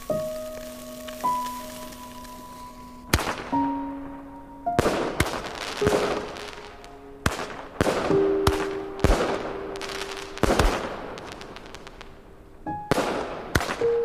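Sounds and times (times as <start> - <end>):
fireworks bangs with crackle: 0.0 - 12.2, 12.8 - 14.0.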